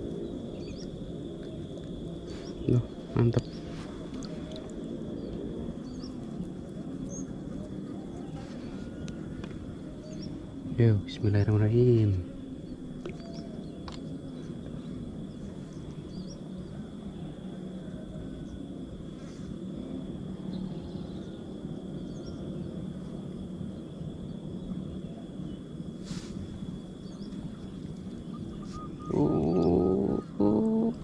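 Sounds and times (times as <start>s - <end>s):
faint high-pitched whine: 0.0s - 31.0s.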